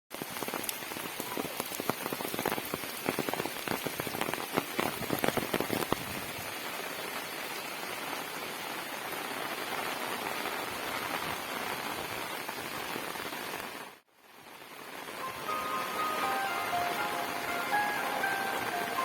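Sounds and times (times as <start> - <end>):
rain hissing: 0.1 - 19.0
raindrops striking a surface: 0.1 - 19.0.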